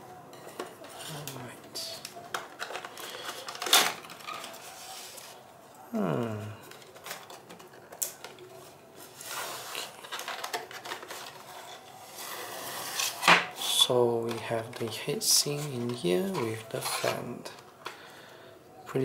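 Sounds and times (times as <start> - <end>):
packaging rustling and scraping: 0.1 - 18.1.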